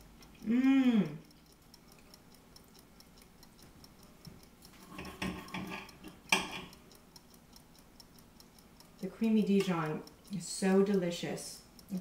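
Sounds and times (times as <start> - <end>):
clock ticking: 0.0 - 12.0.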